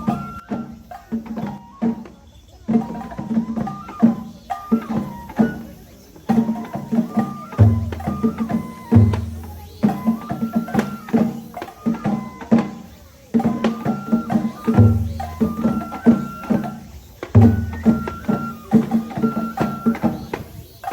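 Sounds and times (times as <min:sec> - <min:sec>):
bamboo flute melody: 0:00.0 - 0:20.9
quick sharp drum strokes: 0:00.0 - 0:20.9.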